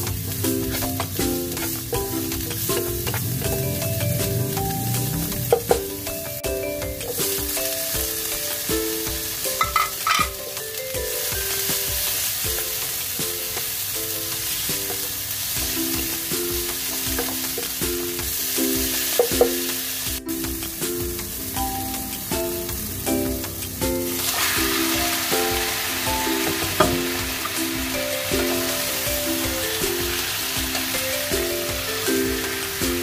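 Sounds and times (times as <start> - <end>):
background music melody: 0.0 - 33.0
food sizzling in a pan: 0.0 - 33.0.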